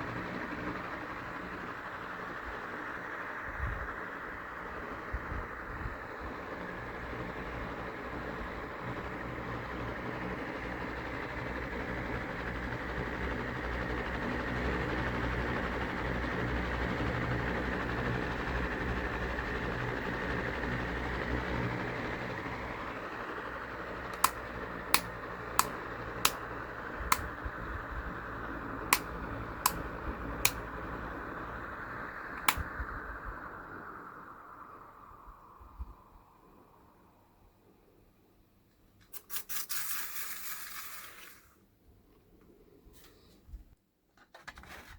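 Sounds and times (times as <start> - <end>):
electric fan whirring: 0.0 - 43.8.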